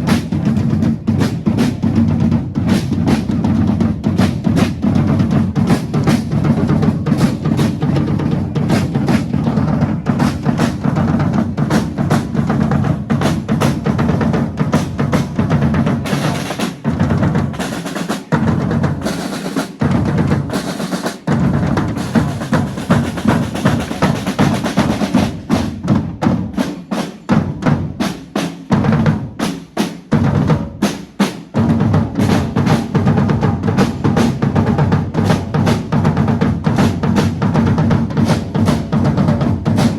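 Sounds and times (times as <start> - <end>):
rapid snare rolls: 0.0 - 39.9.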